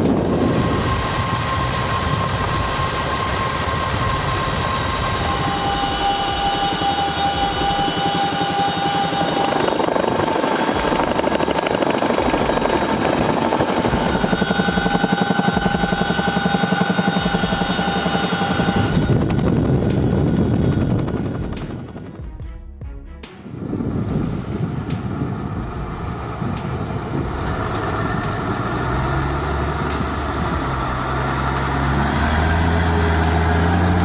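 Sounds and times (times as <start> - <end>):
helicopter rotor chop: 0.0 - 22.4, 23.3 - 34.0
turbine whine: 0.0 - 22.4, 23.3 - 34.0.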